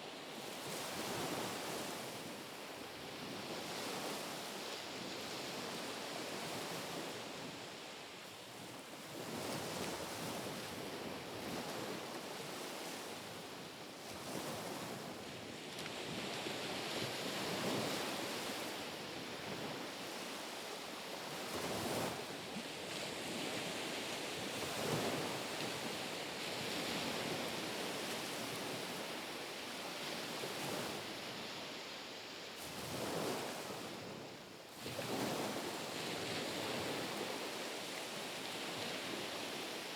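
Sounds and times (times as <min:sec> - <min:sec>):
small waves washing onto shore: 0:00.1 - 0:39.9.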